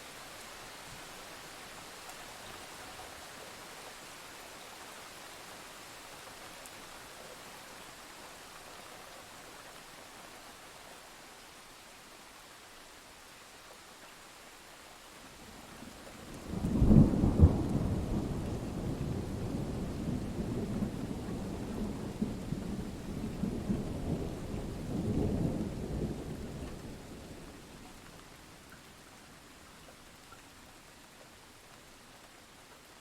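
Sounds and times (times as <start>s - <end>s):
rain hiss: 0.0s - 33.0s.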